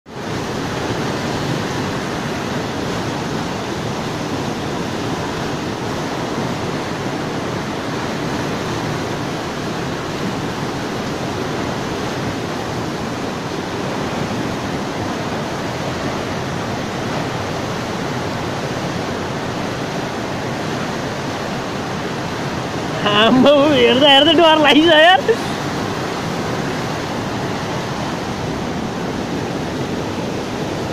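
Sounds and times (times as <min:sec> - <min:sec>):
river water rushing: 0:00.1 - 0:30.9.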